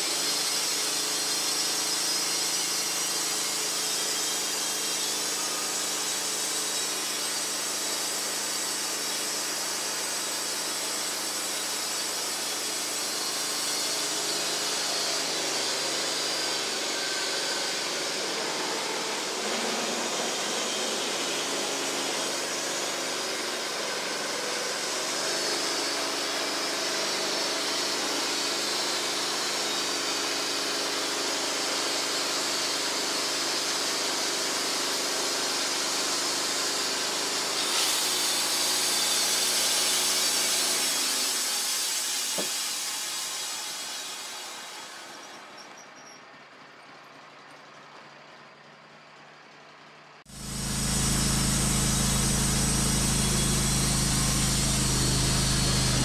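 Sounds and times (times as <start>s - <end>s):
band sawmill cutting log: 0.0s - 45.6s, 50.3s - 56.0s
sawmill motor hum: 0.0s - 45.6s, 50.3s - 56.0s.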